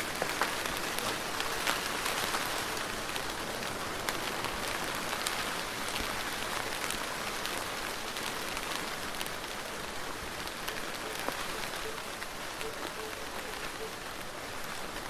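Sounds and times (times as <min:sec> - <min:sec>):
soft rain hiss: 0:00.0 - 0:15.0.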